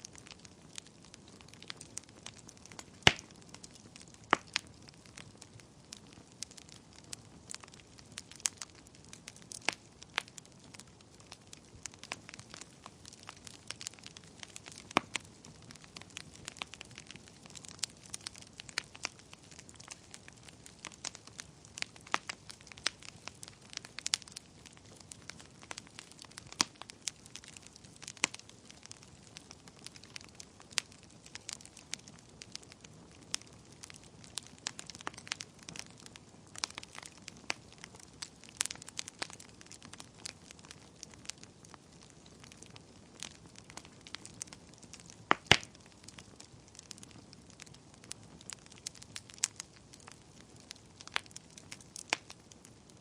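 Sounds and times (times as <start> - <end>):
burning logs crackling and popping: 0.0 - 53.0.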